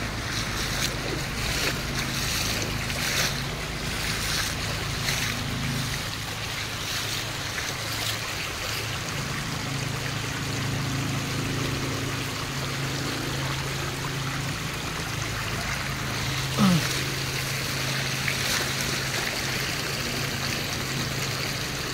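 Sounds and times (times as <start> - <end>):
low hum: 0.0 - 21.9
water running and trickling: 0.0 - 21.9.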